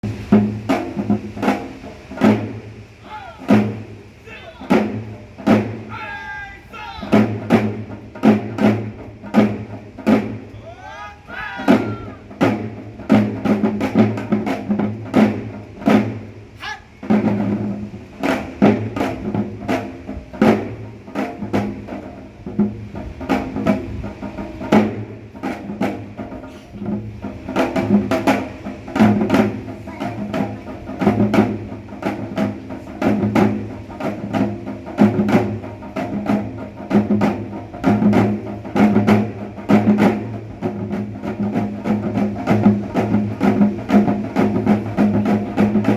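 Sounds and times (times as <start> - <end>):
percussion ensemble drums and gongs: 0.0 - 45.9.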